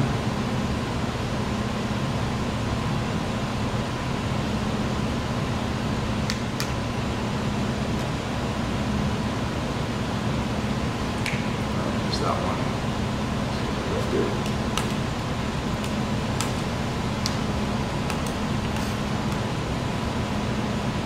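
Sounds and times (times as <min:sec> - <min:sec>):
fan hum and whoosh: 0:00.0 - 0:21.0.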